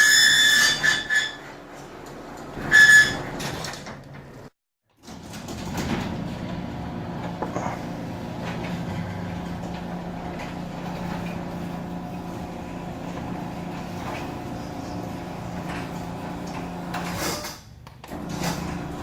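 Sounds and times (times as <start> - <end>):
garage door opener motor hum: 1.4 - 17.4, 18.0 - 19.0.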